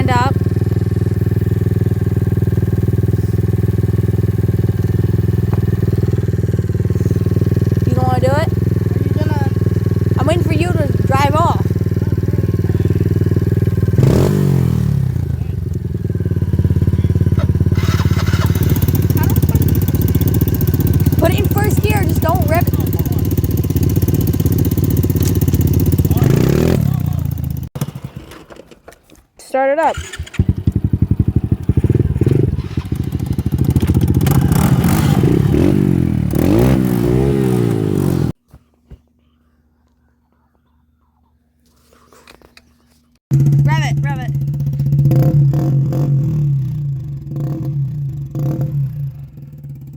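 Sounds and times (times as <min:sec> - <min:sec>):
dirt bike engine idling: 0:00.0 - 0:28.4, 0:30.0 - 0:38.4, 0:43.3 - 0:49.9.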